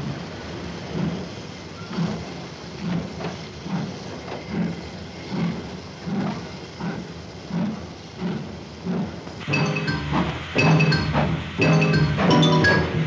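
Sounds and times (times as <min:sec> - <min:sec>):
railway carriage rumble: 0:00.0 - 0:13.0
wheels clattering over rail joints: 0:00.0 - 0:13.0.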